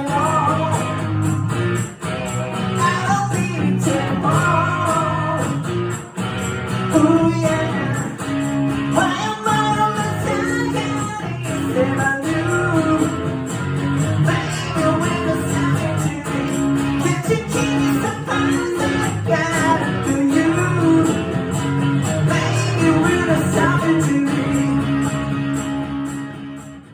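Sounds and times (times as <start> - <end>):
man singing: 0.0 - 1.5, 2.7 - 5.7, 6.9 - 25.8
guitar strumming: 0.0 - 26.9.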